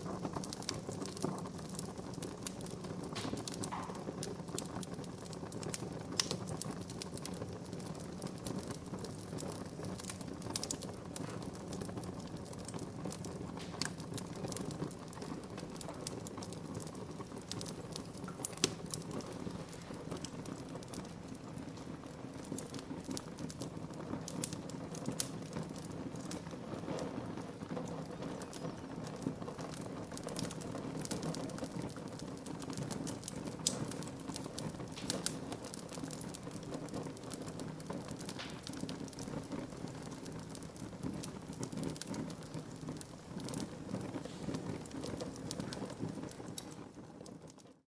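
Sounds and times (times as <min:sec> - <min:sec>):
crackles and pops of burning wood: 0:00.0 - 0:47.8.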